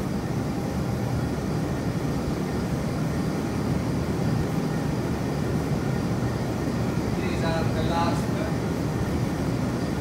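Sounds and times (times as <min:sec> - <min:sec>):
industrial fans running: 0:00.0 - 0:10.0.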